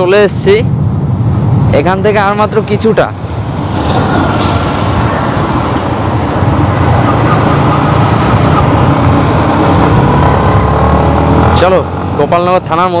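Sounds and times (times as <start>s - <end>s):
wind rush on microphone: 0.0s - 12.3s.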